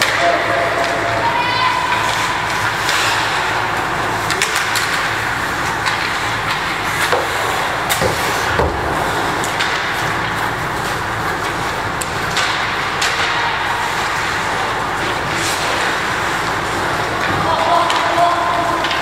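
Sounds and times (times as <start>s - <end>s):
hockey sticks and puck clacking: 0.0s - 19.0s
skates scraping ice: 0.0s - 19.0s.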